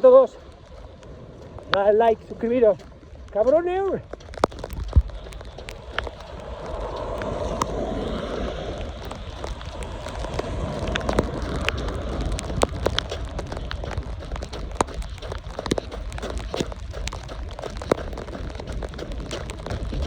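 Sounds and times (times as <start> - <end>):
wind rumbling on microphone: 0.0 - 20.0
sharp ticks: 3.3 - 20.0.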